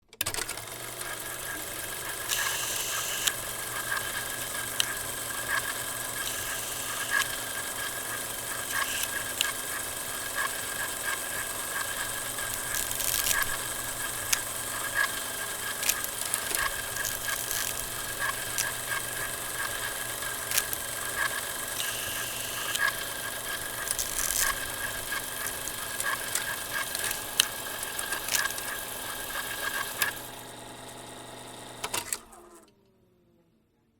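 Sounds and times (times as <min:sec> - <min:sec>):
film projector whir and clatter: 0:00.0 - 0:33.0
crackling clicks and pops: 0:02.3 - 0:09.8, 0:10.4 - 0:30.3.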